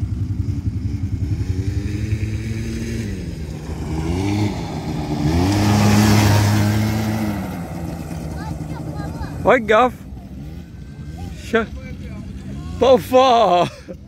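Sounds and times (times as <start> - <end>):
quad bike engines revving: 0.0 - 14.0.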